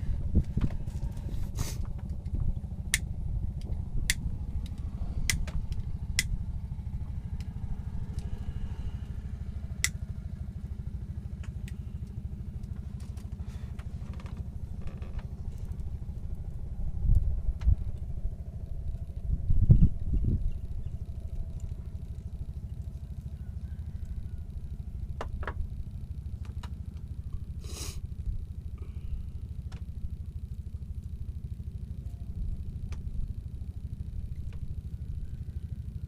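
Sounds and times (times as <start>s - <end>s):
low motor rumble: 0.0s - 36.0s.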